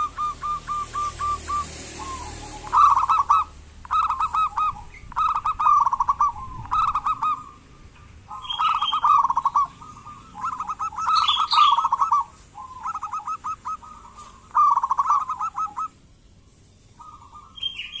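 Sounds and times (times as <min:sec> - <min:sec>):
dove cooing: 0:00.0 - 0:07.7, 0:08.3 - 0:16.0.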